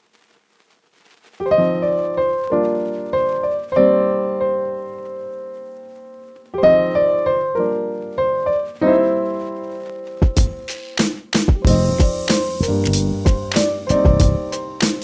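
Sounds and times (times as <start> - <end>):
solo piano chords: 1.4 - 10.7, 11.6 - 14.8.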